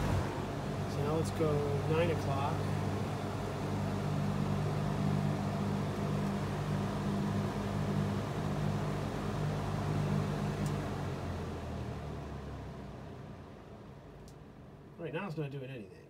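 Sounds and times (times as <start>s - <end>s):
electric fan running: 0.0s - 14.9s.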